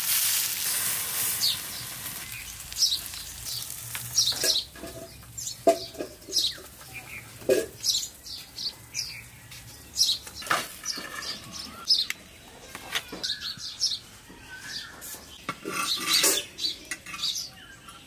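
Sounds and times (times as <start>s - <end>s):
small birds chirping: 1.2s - 18.0s.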